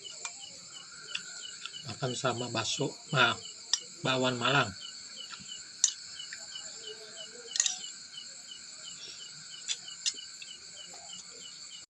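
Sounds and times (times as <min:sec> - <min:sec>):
crickets and insects trilling: 0:00.0 - 0:11.9.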